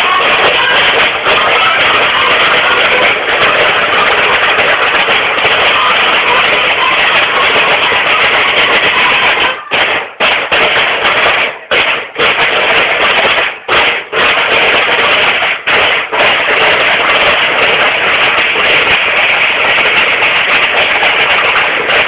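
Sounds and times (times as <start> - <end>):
marching snare drums cadence: 0.0 - 22.0.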